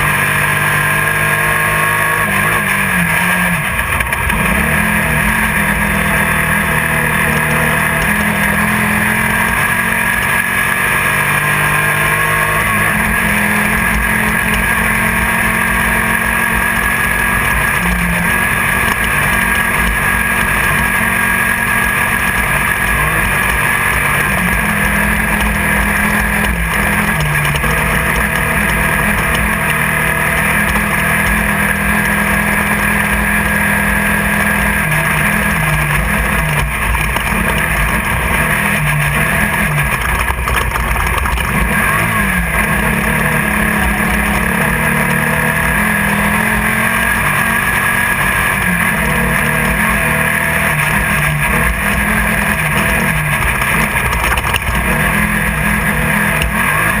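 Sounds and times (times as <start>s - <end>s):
race car engine revving: 0.0s - 57.0s
rattle and road noise: 0.0s - 57.0s.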